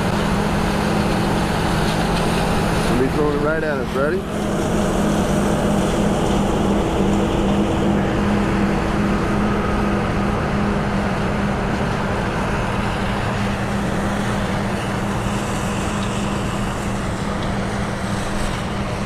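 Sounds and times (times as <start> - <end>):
dense rushing noise: 0.0 - 19.0
heavy farm machinery running: 0.0 - 19.0.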